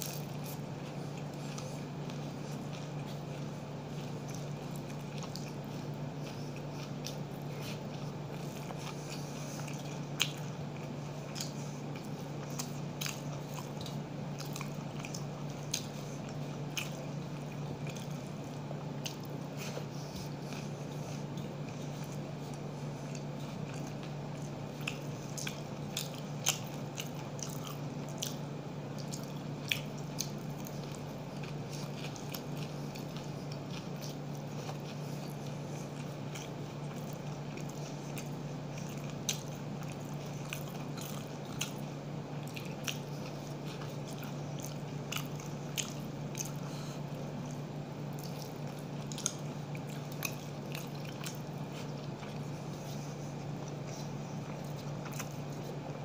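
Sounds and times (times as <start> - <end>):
man chewing and smacking: 0.0 - 56.0
steady low hum: 0.0 - 56.0.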